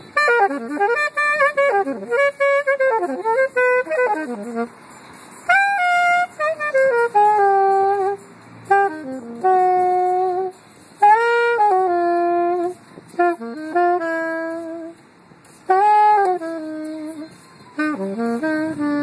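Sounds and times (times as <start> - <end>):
saxophone long held notes: 0.1 - 4.7, 5.5 - 15.0, 15.7 - 19.0.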